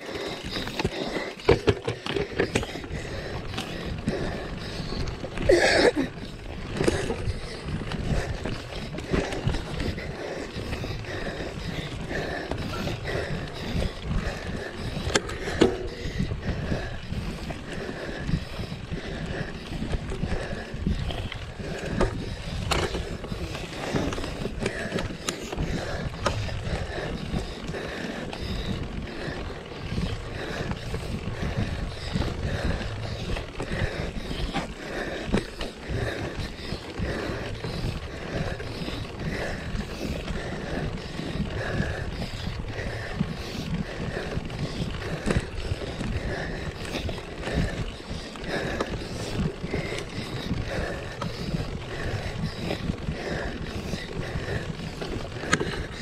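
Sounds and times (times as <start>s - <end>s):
bike tyre rumble and rattling: 0.0s - 56.0s.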